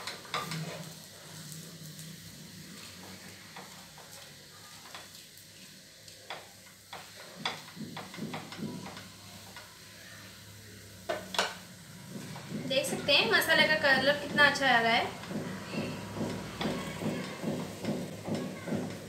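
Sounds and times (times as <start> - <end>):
wooden spatula scraping a pan: 0.0 - 10.0, 11.1 - 19.0
faint frying sizzle: 0.0 - 19.0.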